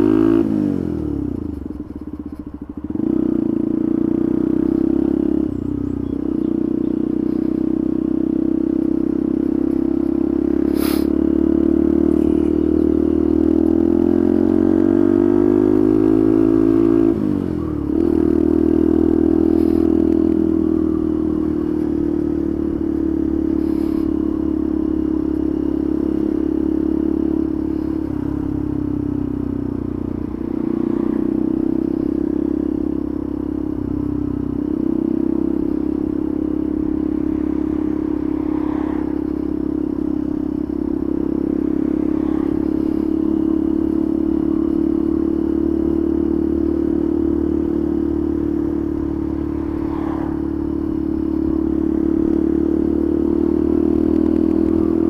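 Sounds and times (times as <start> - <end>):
motorcycle engine running: 0.0 - 55.0
road rumble: 0.0 - 55.0
wind: 0.0 - 55.0.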